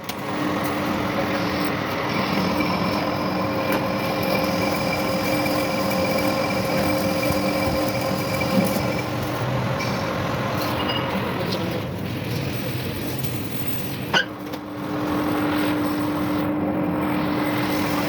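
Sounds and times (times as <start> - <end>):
workshop machine whining: 0.0 - 18.0.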